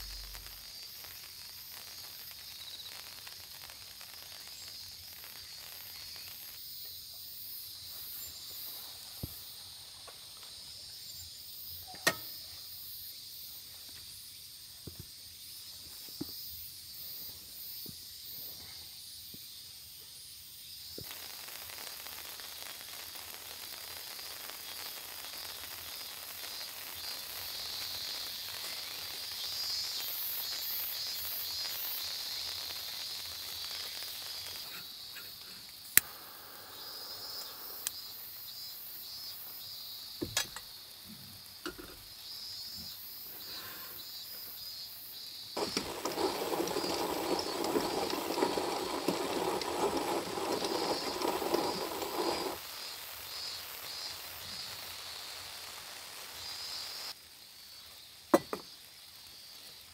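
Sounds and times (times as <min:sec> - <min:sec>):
insects chirping: 0:00.0 - 0:59.9.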